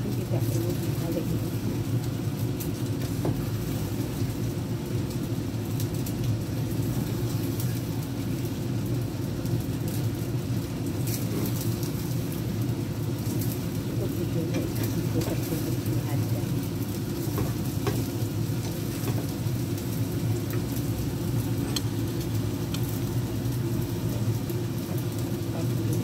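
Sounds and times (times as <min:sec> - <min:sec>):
soft sizzle: 0:00.0 - 0:26.0
steady low hum: 0:00.0 - 0:26.0.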